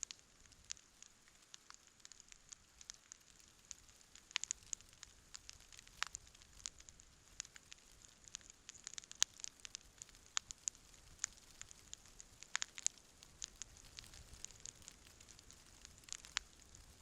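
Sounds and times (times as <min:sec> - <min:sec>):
campfire crackling: 0:00.0 - 0:17.0
faint hiss: 0:00.0 - 0:17.0
fire popping and snapping: 0:00.0 - 0:17.0.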